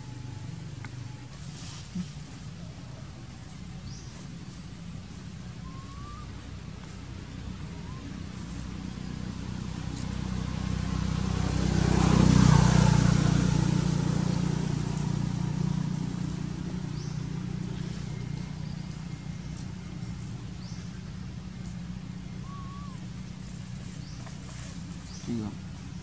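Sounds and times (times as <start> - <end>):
motor vehicle passing by: 0.0 - 26.0.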